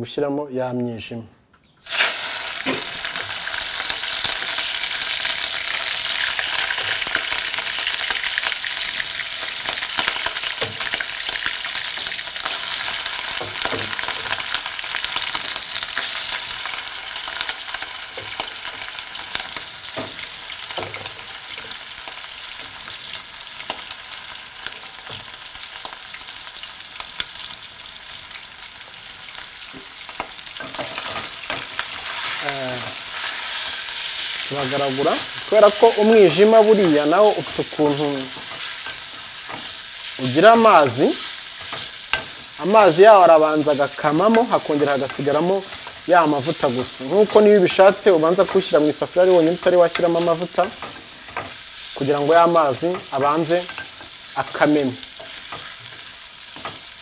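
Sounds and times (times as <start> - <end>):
liver sizzling in hot oil: 1.8 - 57.0.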